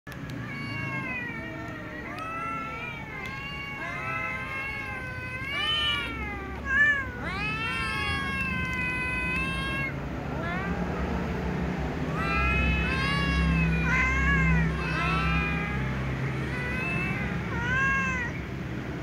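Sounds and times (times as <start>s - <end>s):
cats meowing: 0.1s - 19.0s
cat's high cry: 0.2s - 11.4s, 12.0s - 18.6s.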